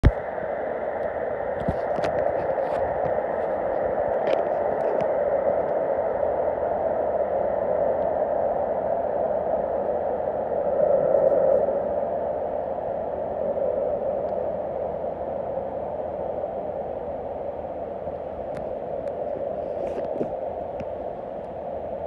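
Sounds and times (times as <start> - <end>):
static-like noise: 0.0 - 22.0.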